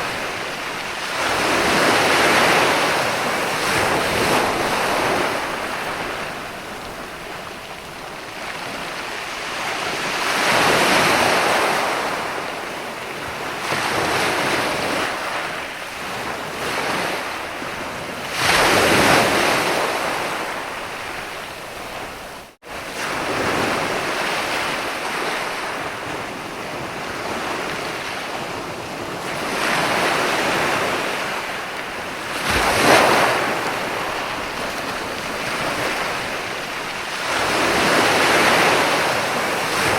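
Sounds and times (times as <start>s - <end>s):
sea surf breaking on beach: 0.0s - 39.9s.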